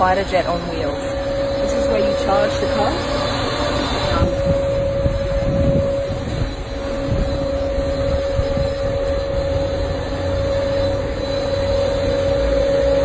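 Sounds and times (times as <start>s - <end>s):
steady hum: 0.0s - 13.0s
wind buffeting microphone: 0.0s - 13.0s.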